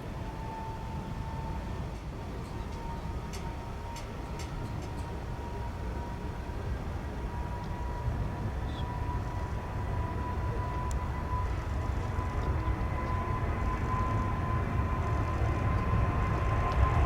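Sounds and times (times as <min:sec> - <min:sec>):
high engine whine: 0:00.0 - 0:17.0
jet engines rumbling: 0:00.0 - 0:17.0.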